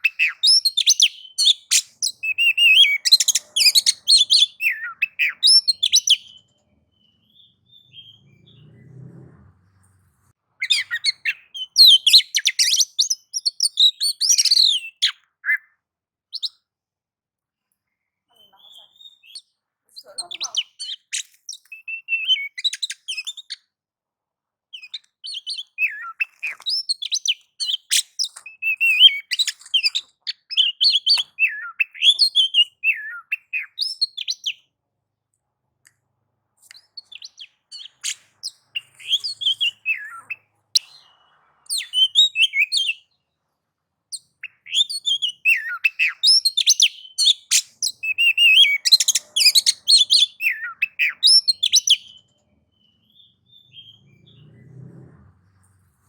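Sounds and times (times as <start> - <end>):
bird singing whistles and chatter: 0.0 - 8.8, 10.6 - 15.7, 18.3 - 23.6, 24.8 - 34.6, 36.7 - 43.1, 44.2 - 54.8.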